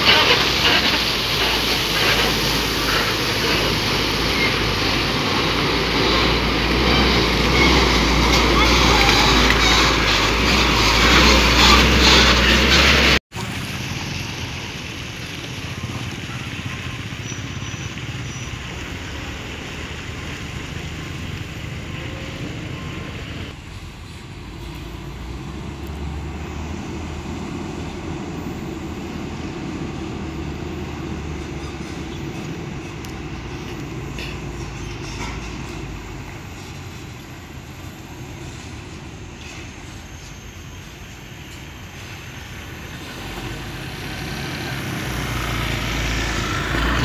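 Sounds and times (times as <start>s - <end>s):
heavy vehicle engine running: 0.0s - 47.0s
tyre and road noise: 0.0s - 47.0s.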